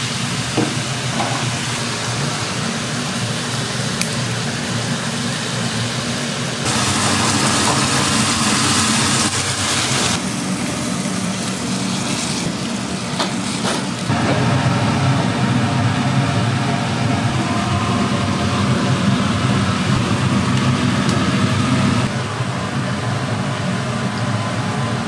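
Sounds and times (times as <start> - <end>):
loud hiss: 0.0 - 22.4
low mechanical hum: 0.0 - 25.0.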